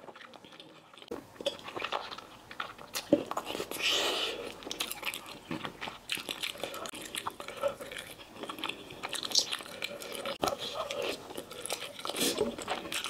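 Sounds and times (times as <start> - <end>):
chewing and biting: 0.0 - 13.0.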